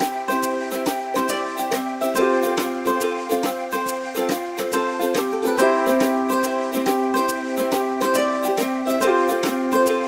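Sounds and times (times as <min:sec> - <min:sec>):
bright background music: 0:00.0 - 0:10.0.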